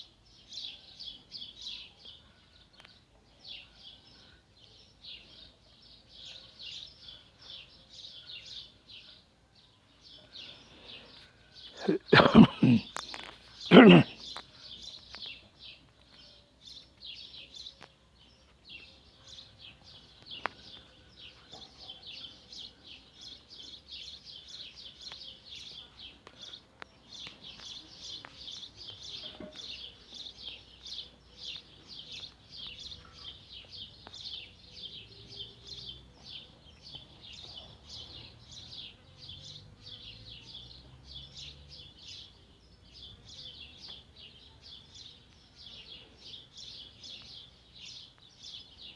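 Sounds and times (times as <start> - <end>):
small birds chirping rapidly: 0.0 - 48.9.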